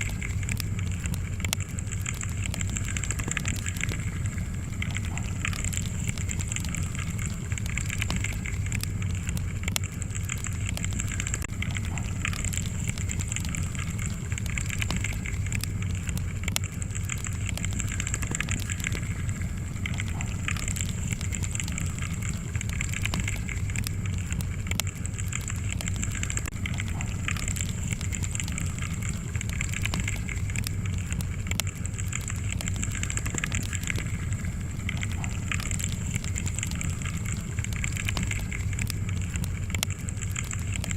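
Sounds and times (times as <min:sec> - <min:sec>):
crackles and pops of burning logs: 0:00.0 - 0:40.9
wood fire burning: 0:00.0 - 0:40.9.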